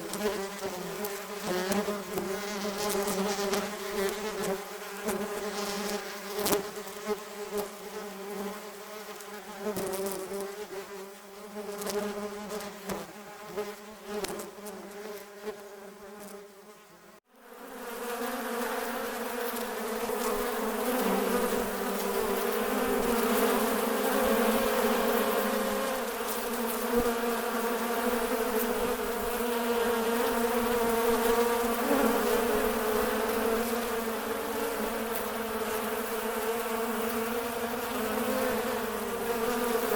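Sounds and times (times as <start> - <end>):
wasps buzzing: 0.0 - 16.5, 17.4 - 39.9.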